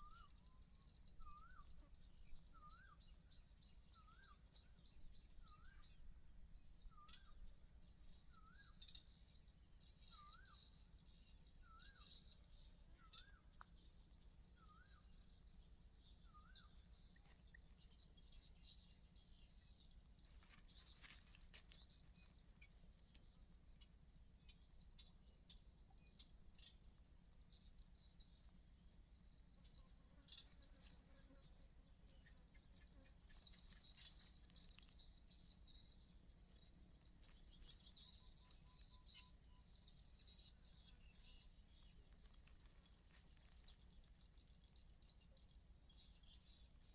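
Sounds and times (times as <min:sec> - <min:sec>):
small birds chirping: 0:00.0 - 0:06.0, 0:11.8 - 0:46.9.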